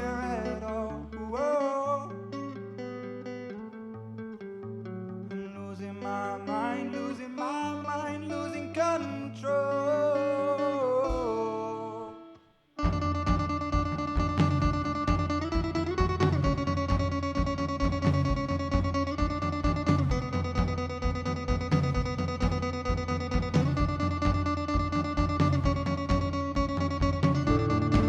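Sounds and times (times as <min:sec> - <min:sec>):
gliding guitar melody: 0:00.0 - 0:28.0
strummed guitar: 0:00.0 - 0:28.0.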